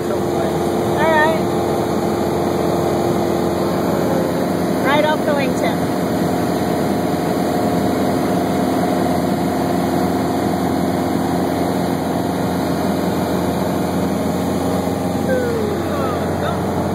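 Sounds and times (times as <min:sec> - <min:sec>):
aircraft engine drone in cabin: 0:00.0 - 0:16.9.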